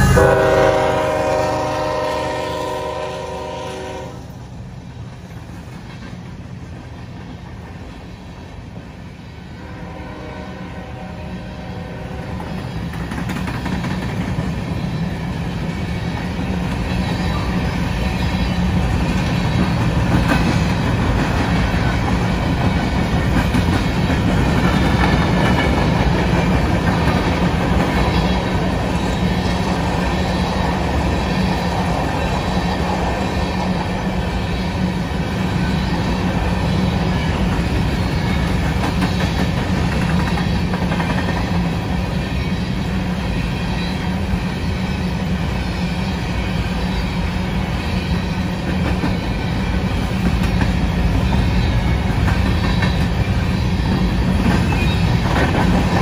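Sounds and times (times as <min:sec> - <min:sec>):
rail clacks: 0:00.0 - 0:09.3, 0:12.0 - 0:56.0
train wheels rumbling on rails: 0:00.0 - 0:56.0.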